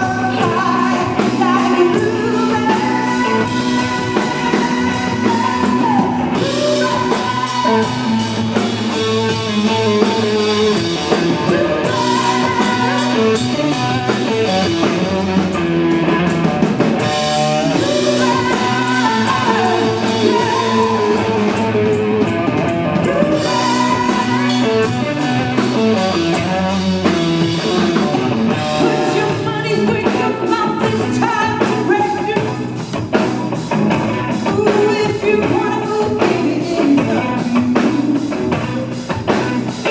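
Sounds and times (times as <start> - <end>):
person singing: 0.0 - 15.3, 16.1 - 26.8, 27.5 - 32.8, 34.2 - 39.9
rock band playing: 0.0 - 39.9.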